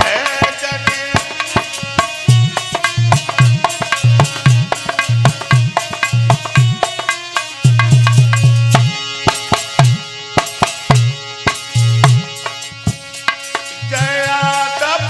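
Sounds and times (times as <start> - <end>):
sustained melodic accompaniment: 0.0 - 15.0
tabla playing: 0.0 - 15.0.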